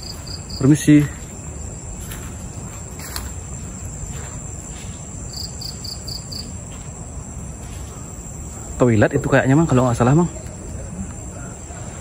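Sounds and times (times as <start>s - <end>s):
crickets chirping: 0.0s - 12.0s
low background noise: 0.0s - 12.0s.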